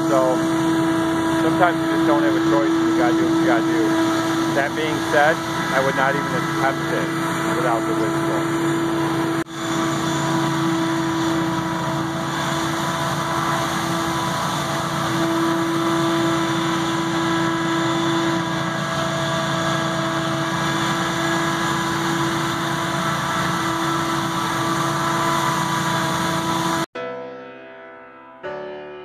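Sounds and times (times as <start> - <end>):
debris blower droning: 0.0 - 26.9.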